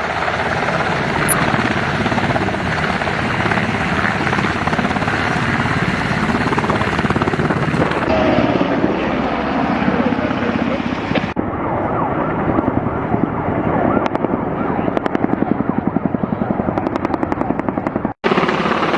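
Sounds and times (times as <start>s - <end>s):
helicopter rotor chopping: 0.0s - 18.9s
helicopter turbine noise: 0.0s - 18.9s.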